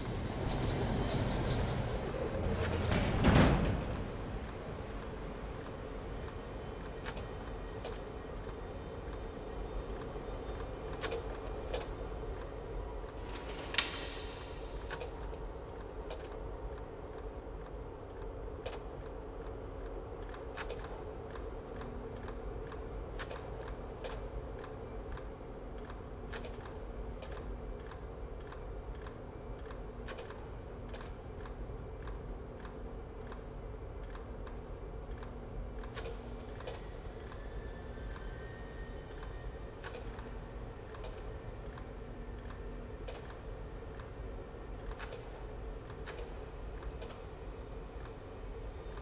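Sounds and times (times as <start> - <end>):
steady low hum: 0.0 - 49.0
sharp clicks and ticks: 3.9 - 9.3, 9.9 - 37.4, 39.1 - 44.2, 44.8 - 48.2.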